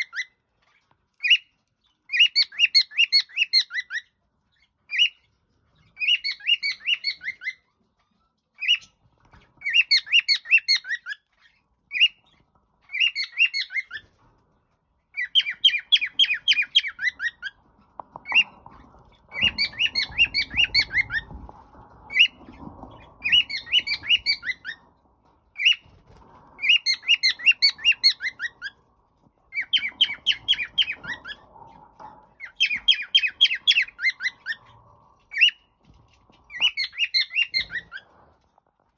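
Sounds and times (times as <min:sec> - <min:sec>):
cockatiel chirping: 0:00.0 - 0:14.3, 0:15.1 - 0:17.6, 0:18.2 - 0:24.9, 0:25.6 - 0:31.5, 0:32.4 - 0:35.7, 0:36.4 - 0:38.2.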